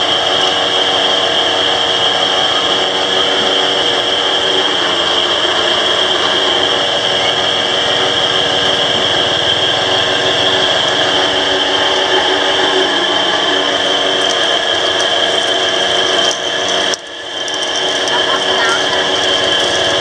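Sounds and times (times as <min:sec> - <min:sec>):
juice press motor drone: 0:00.0 - 0:20.0.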